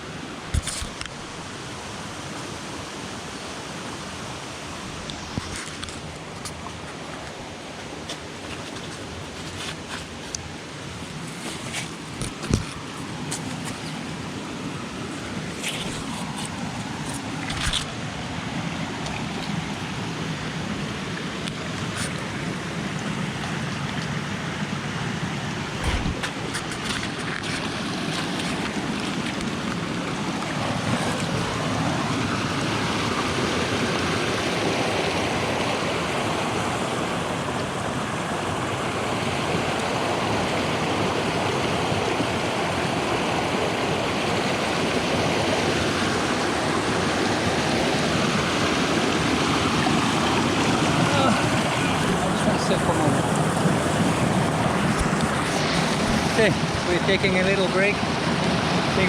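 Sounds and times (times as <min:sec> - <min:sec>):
water cascading over rocks: 0:00.0 - 0:59.0.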